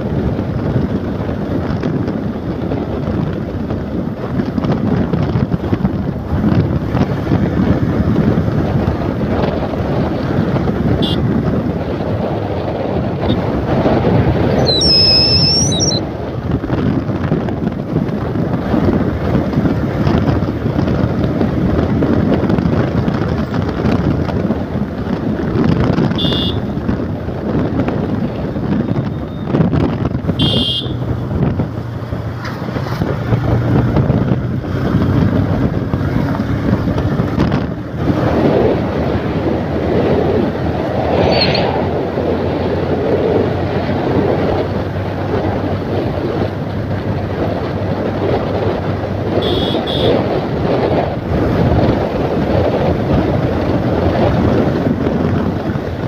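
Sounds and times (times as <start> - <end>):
open vehicle rumbling on road: 0.0 - 56.0
wind buffeting microphone: 0.0 - 56.0.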